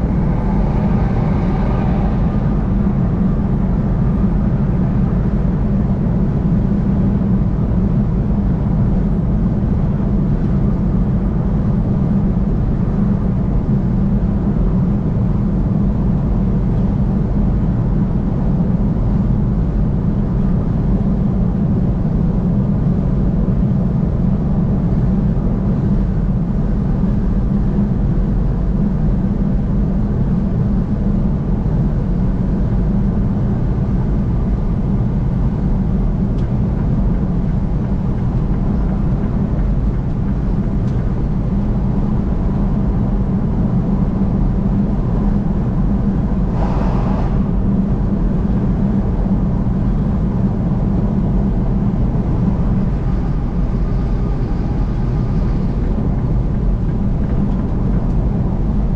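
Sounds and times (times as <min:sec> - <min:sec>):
vehicle road and engine drone: 0:00.0 - 0:58.9.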